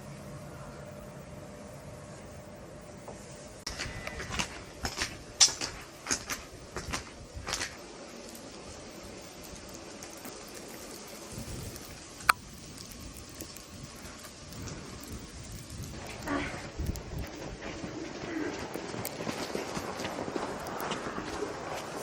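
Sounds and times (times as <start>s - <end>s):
sharp clicks and crunches: 3.7s - 22.0s.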